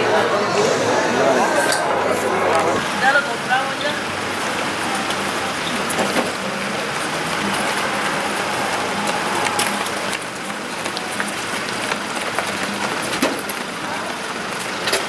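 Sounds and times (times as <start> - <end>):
rushing outdoor noise: 0.0 - 15.0.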